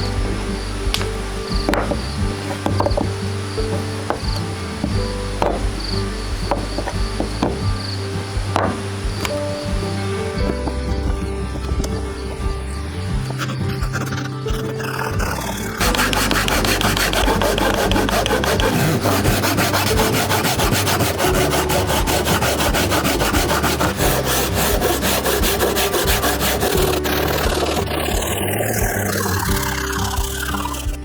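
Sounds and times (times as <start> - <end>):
faint background music: 0.0 - 31.0
tool scraping wood: 0.0 - 31.0.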